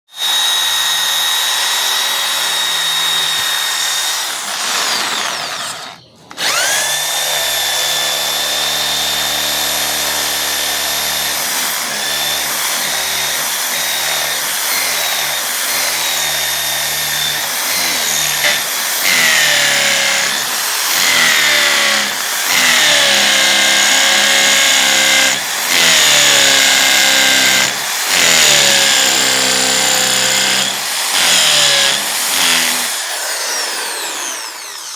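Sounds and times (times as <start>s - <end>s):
electric drill drilling into concrete: 0.1s - 34.9s.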